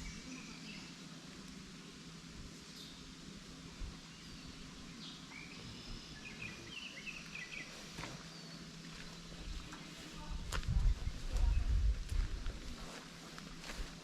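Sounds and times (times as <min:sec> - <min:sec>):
small birds chirping: 0:00.0 - 0:01.8, 0:03.8 - 0:14.0.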